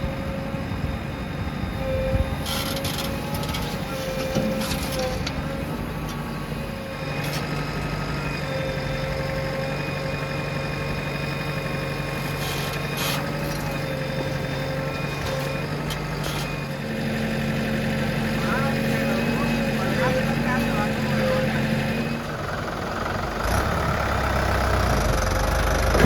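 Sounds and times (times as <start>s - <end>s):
heavy diesel machinery running: 0.0s - 26.0s.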